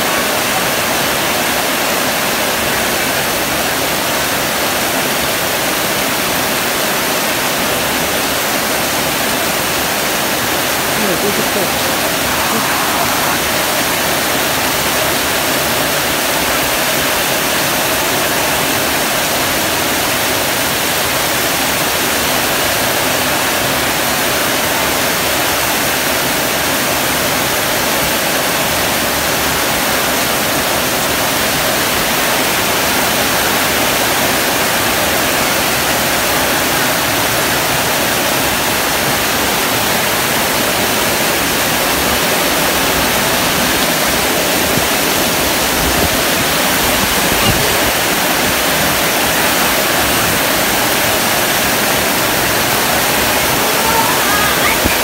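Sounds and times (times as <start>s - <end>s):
heavy rain on metal roofs: 0.0s - 55.0s.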